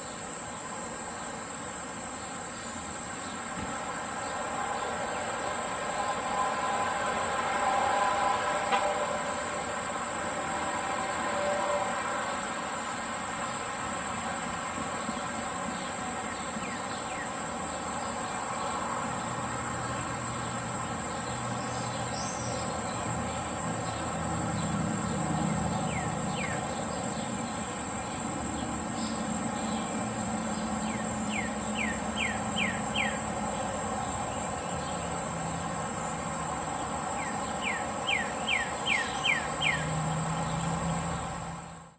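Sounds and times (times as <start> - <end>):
insects droning: 0.0 - 41.9.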